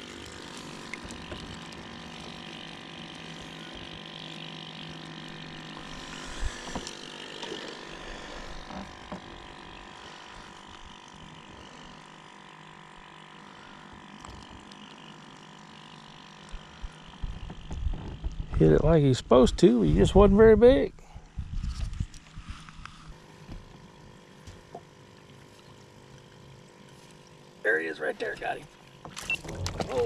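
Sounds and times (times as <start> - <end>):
small electric motor humming: 0.0 - 30.0.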